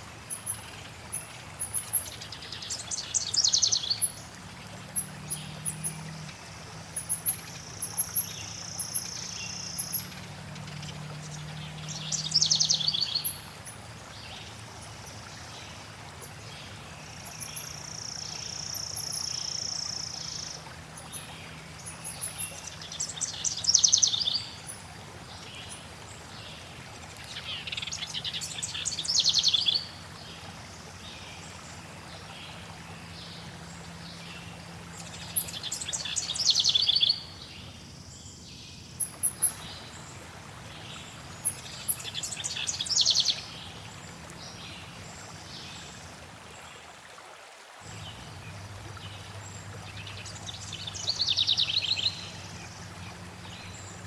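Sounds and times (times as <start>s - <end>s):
forest birds singing: 0.0s - 46.8s, 47.8s - 54.0s
flowing water hiss: 0.0s - 54.0s.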